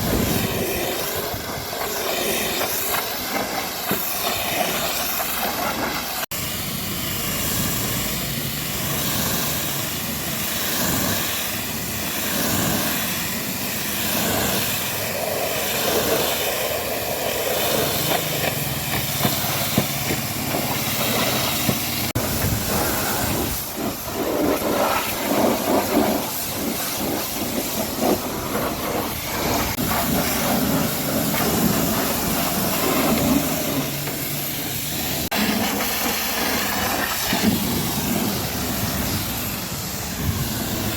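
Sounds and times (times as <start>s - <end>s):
pressure washer water jet hissing: 0.0s - 40.9s.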